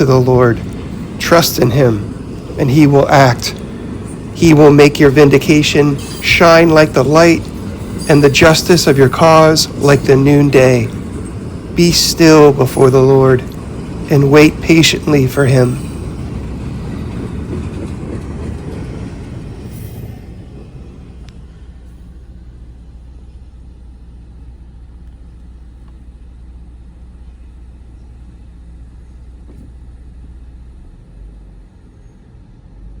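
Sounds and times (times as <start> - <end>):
train rolling rumble: 0.0 - 33.0.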